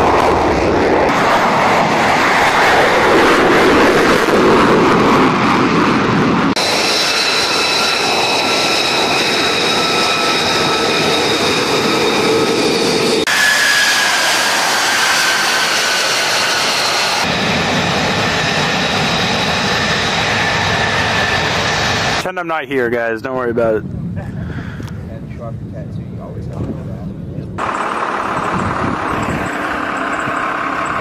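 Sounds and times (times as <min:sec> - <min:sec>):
jet engine roaring with turbine whine: 0:00.0 - 0:31.0.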